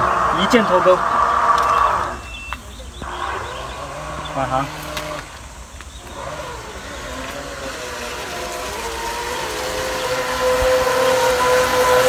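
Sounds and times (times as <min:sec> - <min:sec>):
remote-control boat motor whining: 0:00.0 - 0:12.0.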